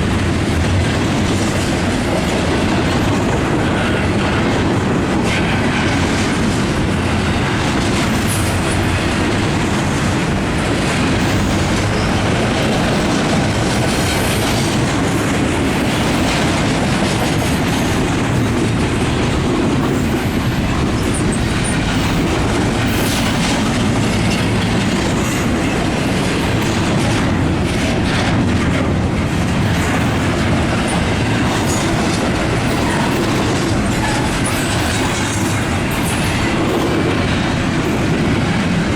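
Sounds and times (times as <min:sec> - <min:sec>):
train wheels clacking over rail joints: 0:00.0 - 0:38.9.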